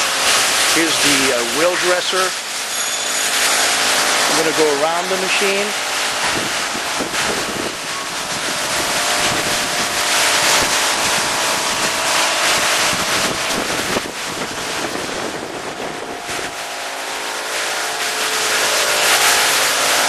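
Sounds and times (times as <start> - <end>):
loud even hiss: 0.0 - 20.0
machine hum: 0.0 - 20.0.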